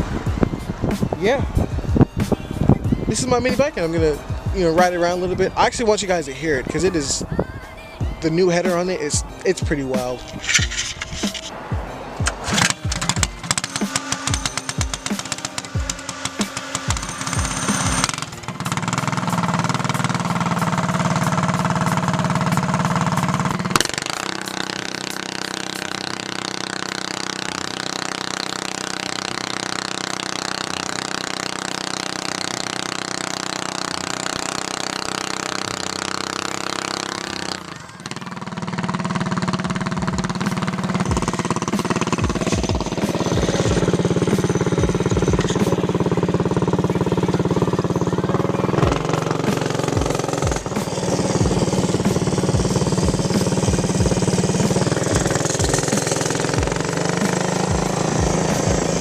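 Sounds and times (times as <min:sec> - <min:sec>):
small engine running loud: 0:00.0 - 0:59.0.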